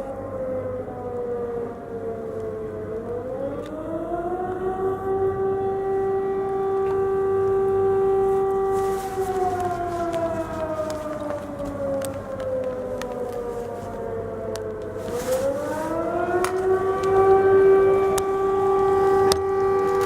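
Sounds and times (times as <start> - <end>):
air-raid siren wailing: 0.0 - 20.0.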